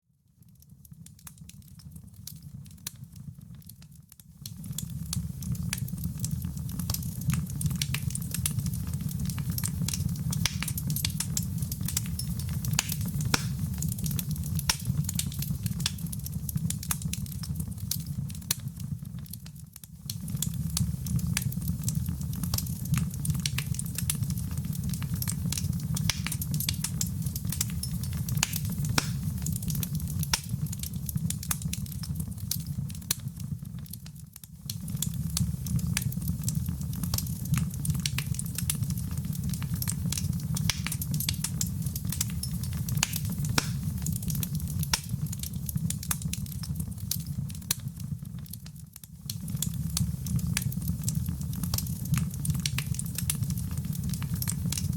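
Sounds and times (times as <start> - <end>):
low rumble of flame: 0.4 - 54.9
wood fire crackling and popping: 0.4 - 54.9.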